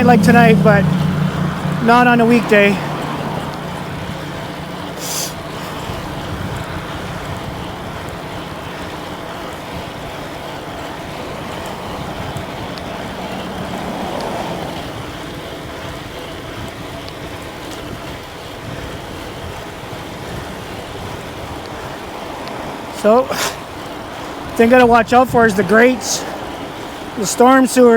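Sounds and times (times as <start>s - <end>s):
wind rushing on microphone: 0.0s - 27.9s.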